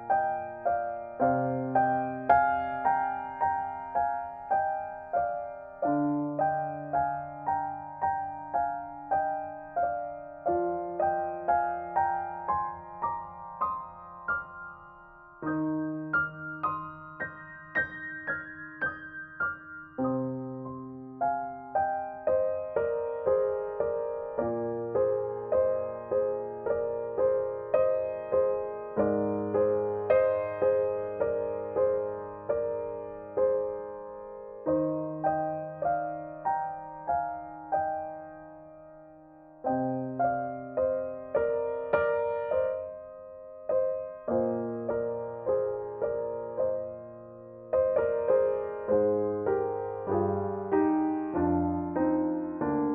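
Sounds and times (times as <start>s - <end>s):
gentle piano melody: 0.0s - 52.9s.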